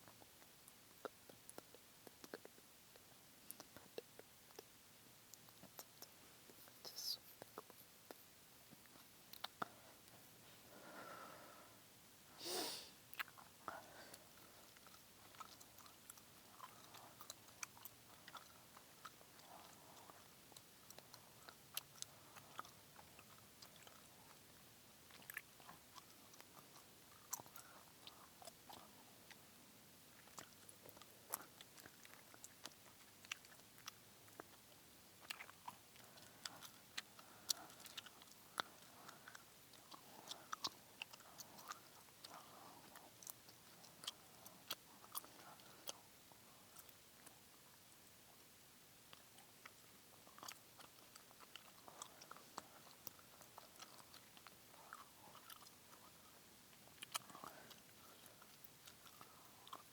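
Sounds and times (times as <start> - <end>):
gum chewing wet smacks: 0.0 - 4.7, 7.4 - 10.2, 13.1 - 48.5, 49.1 - 59.9.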